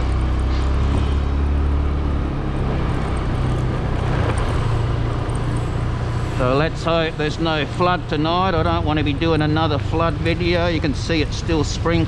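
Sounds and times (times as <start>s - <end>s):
street traffic noise: 0.0s - 12.0s
vehicle engine running: 0.0s - 12.0s.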